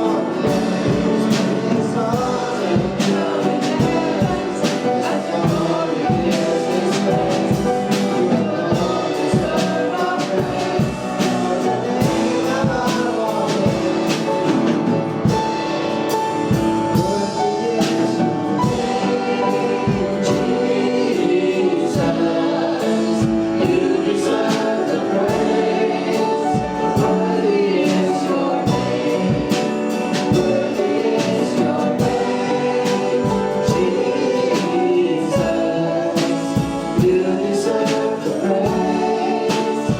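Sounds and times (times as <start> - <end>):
band with steady drum beat: 0.0 - 39.9
voices singing worship song: 0.0 - 39.9.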